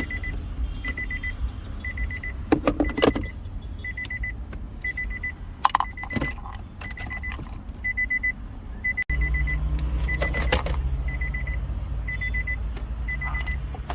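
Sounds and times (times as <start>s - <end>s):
dashboard warning chime beeps: 0.0s - 13.9s.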